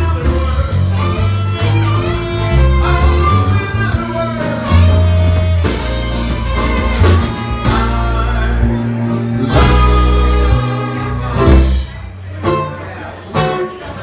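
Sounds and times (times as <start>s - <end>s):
drum kit beat: 0.0s - 12.6s
electric bass: 0.0s - 14.0s
strummed acoustic guitar: 0.0s - 14.0s.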